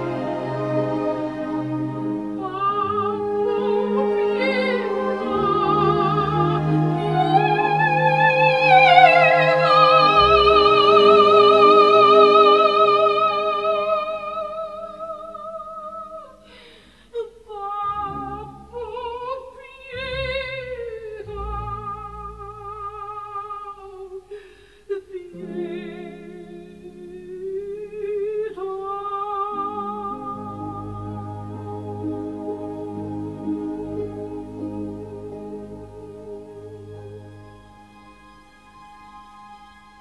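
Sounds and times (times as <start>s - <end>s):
person singing with vibrato: 0.0s - 37.8s.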